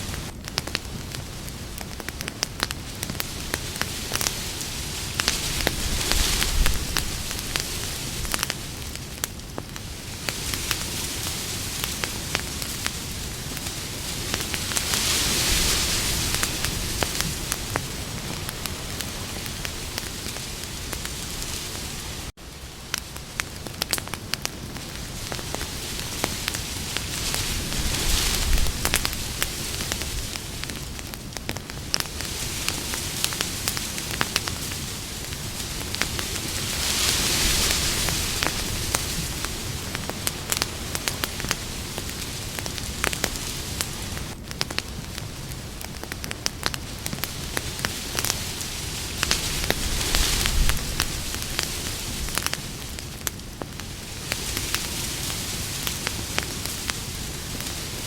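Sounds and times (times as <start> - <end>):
campfire crackling and popping: 0.0 - 58.0
campfire hiss: 0.0 - 58.0.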